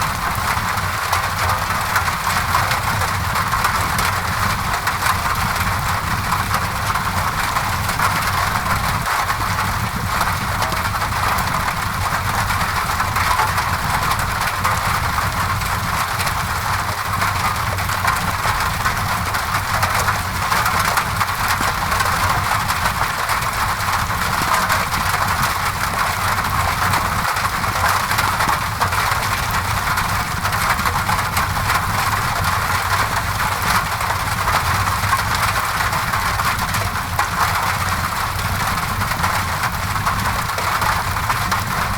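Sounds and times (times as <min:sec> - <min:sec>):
rain on a window: 0:00.0 - 0:41.9.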